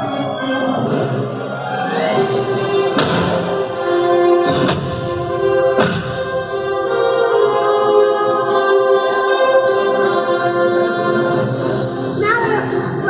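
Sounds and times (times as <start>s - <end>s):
choir singing sustained notes: 0.0s - 12.2s.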